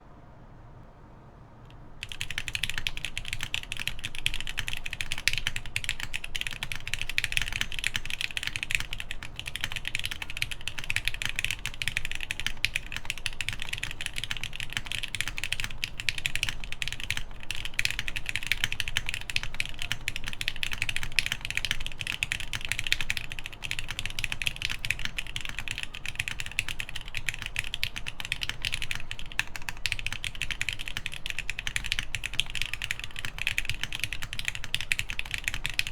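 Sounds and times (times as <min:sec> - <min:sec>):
fast typing on mechanical keyboard: 0:02.0 - 0:35.9.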